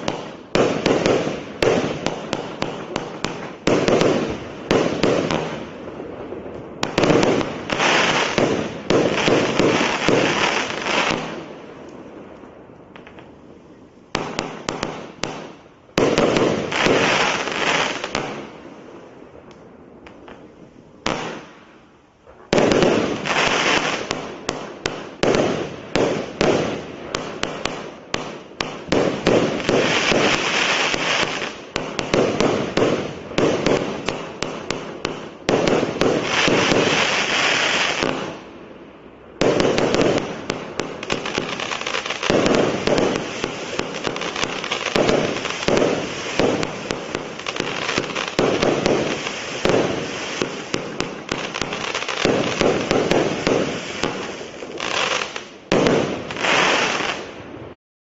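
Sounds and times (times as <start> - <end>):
firework crackling: 0.0 - 57.8.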